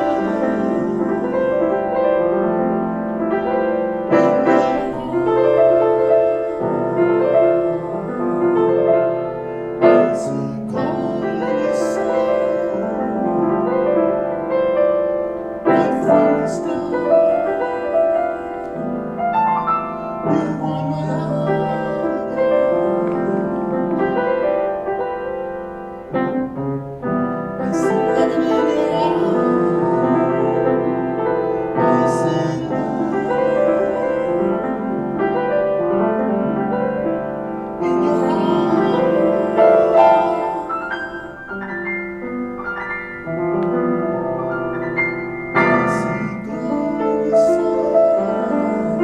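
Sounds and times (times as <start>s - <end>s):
solo piano chords and melody: 0.0s - 49.0s.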